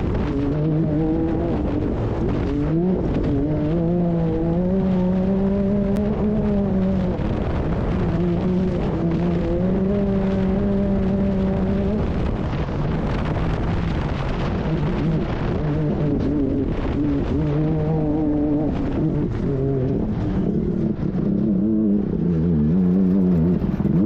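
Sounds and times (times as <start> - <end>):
engine running hard revving: 0.0 - 24.0.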